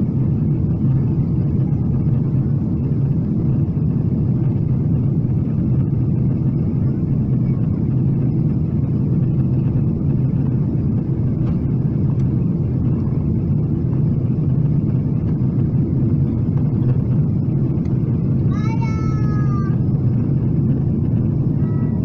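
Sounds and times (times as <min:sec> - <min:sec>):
airplane cabin roar: 0:00.0 - 0:22.0.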